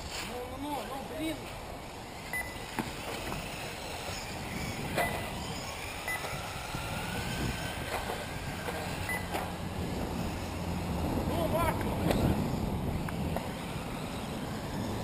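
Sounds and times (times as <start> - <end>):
steady background rush: 0.0 - 15.0
rc car motors whining: 0.5 - 15.0.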